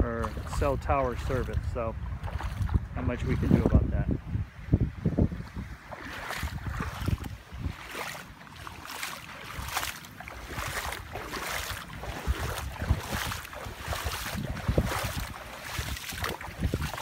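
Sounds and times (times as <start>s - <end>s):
feet splashing through water: 0.0s - 3.8s, 5.4s - 17.0s
wind rumble on microphone: 0.0s - 17.0s.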